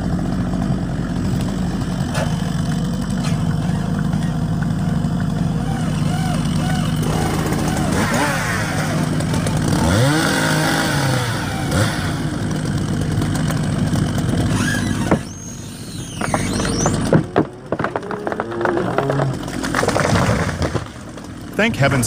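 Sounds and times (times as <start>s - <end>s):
engine revving: 1.3s - 20.9s.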